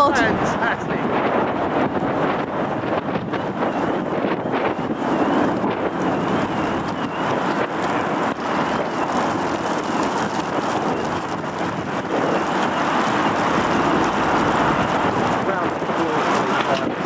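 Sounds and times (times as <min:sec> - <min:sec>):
jet airliner roar: 0:00.0 - 0:17.0
wind buffeting microphone: 0:00.0 - 0:17.0
car alarm siren warbling: 0:02.1 - 0:17.0.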